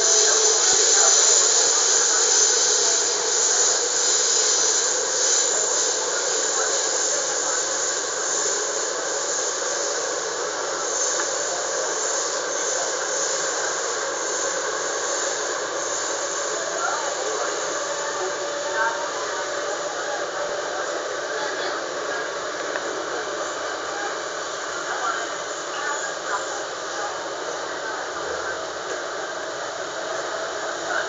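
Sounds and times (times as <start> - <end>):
train rushing hiss from inside: 0.0 - 31.0.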